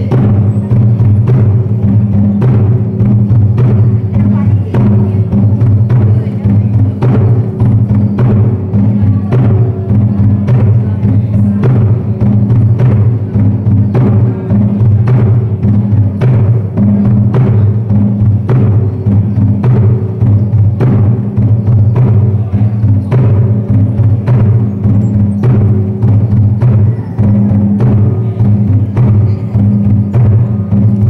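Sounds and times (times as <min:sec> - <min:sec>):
drum beating steady rhythm: 0:00.0 - 0:31.0.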